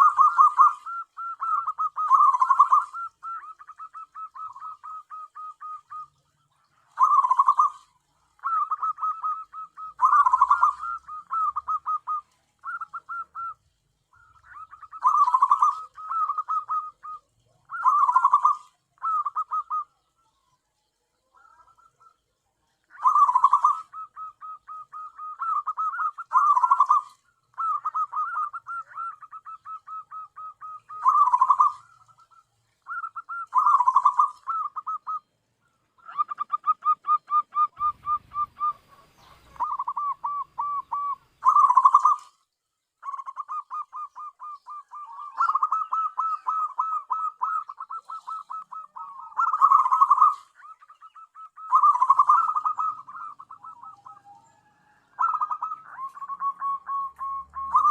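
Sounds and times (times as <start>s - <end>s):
dove cooing: 0.0s - 42.4s, 43.0s - 57.9s.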